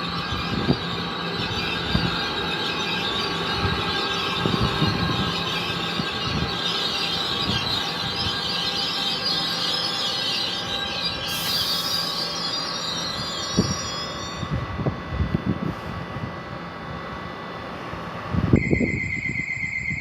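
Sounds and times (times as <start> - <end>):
train wheels squealing: 0.0 - 15.2, 18.6 - 20.0
train rumbling on track: 0.0 - 20.0.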